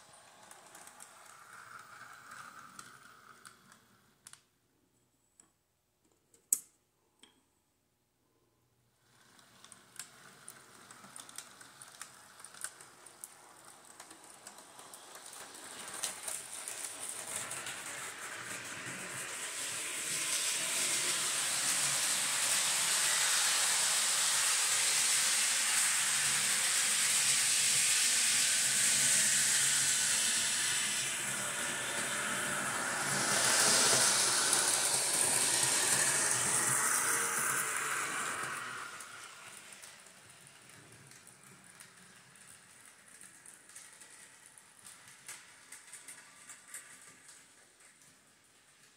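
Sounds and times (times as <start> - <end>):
model train whirring hiss: 0.0 - 3.9, 9.0 - 48.9.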